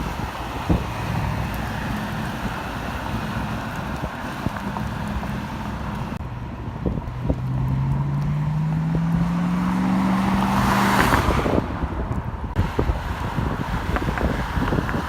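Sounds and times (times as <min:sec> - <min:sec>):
car engine accelerating: 0:00.0 - 0:15.0
road noise: 0:00.0 - 0:15.0
rushing wind noise: 0:00.0 - 0:15.0.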